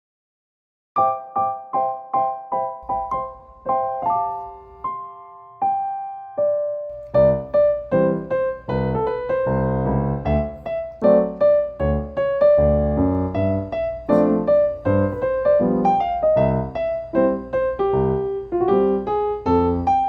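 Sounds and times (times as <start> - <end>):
piano music: 1.0 - 20.0.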